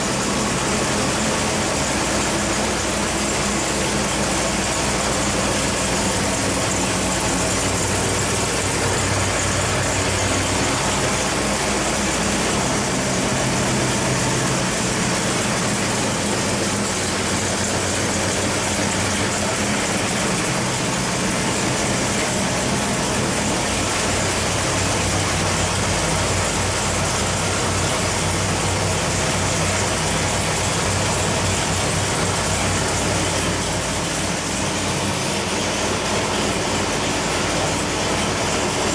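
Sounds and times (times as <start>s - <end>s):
engine running at steady speed: 0.0s - 38.9s.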